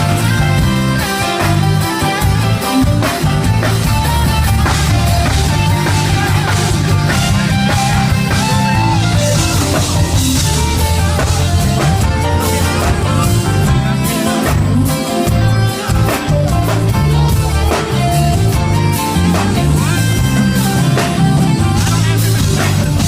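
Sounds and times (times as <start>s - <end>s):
bass and drums: 0.0s - 23.0s
live band playing: 0.0s - 23.0s.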